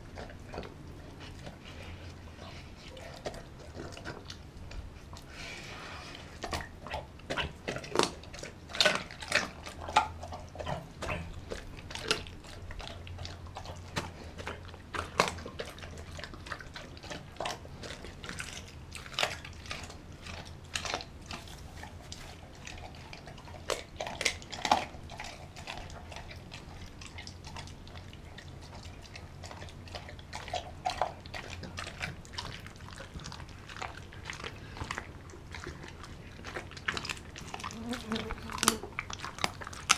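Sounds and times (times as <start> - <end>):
dog chewing raw meat: 0.0 - 39.9.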